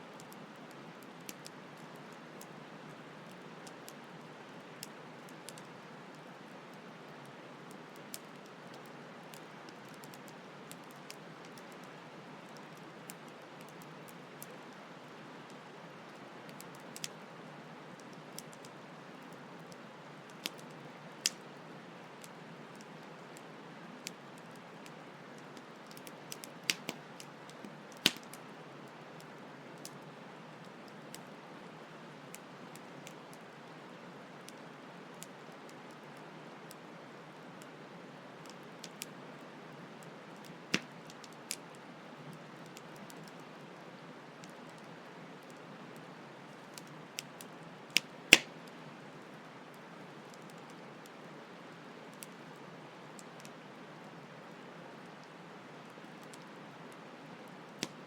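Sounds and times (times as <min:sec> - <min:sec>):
campfire crackling and popping: 0:00.1 - 0:36.9, 0:38.4 - 0:39.2, 0:40.0 - 0:41.8, 0:42.4 - 0:43.5, 0:44.3 - 0:48.8, 0:49.7 - 0:54.3, 0:55.0 - 0:58.0.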